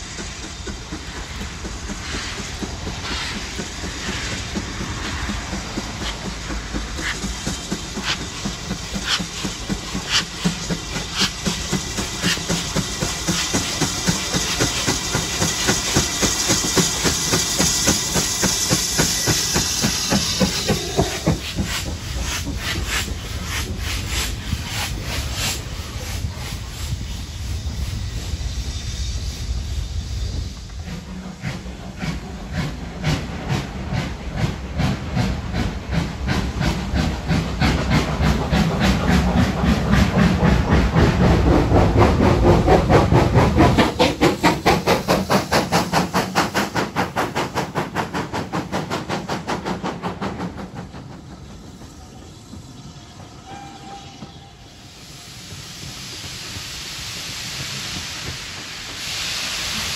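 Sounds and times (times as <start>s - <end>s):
hiss of steam: 0.0s - 59.9s
steam locomotive exhaust beats: 0.0s - 59.9s.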